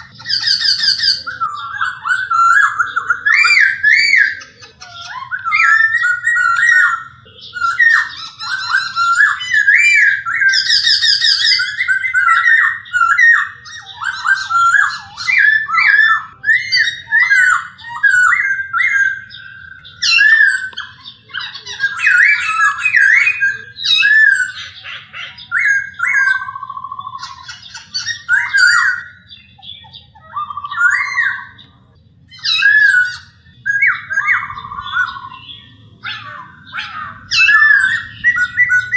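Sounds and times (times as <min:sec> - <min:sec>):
bird singing warbled whistles: 0:00.0 - 0:31.7, 0:32.3 - 0:38.9.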